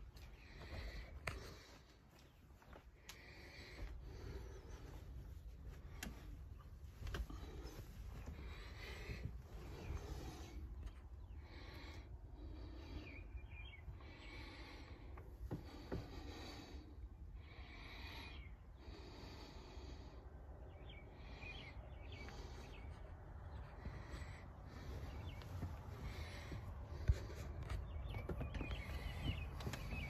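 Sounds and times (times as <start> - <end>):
quiet breathing: 0.0 - 30.0.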